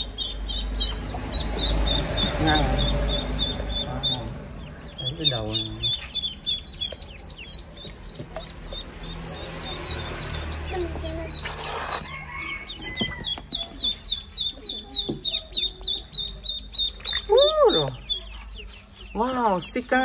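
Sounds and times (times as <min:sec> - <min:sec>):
ducklings peeping: 0:00.0 - 0:20.0.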